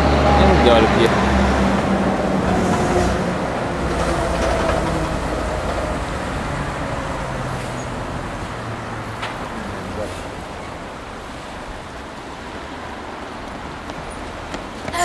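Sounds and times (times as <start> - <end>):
truck engine drone: 0.0 - 13.0.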